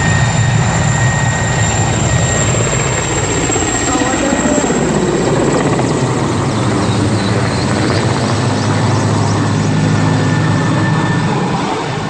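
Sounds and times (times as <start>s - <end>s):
helicopter rotor chop: 0.0s - 12.0s
helicopter turbine noise: 0.0s - 12.0s.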